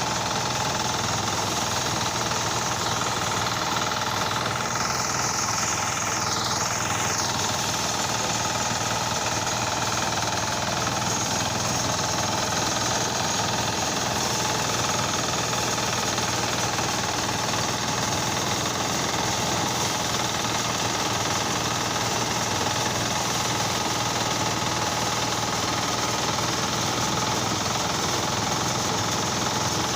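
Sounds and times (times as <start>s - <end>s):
small engine running rattly: 0.0s - 29.9s.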